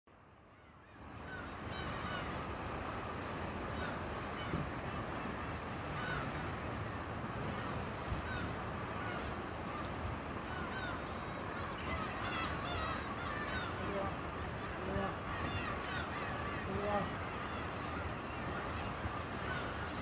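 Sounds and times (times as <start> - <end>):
seagulls calling: 0.5 - 20.0.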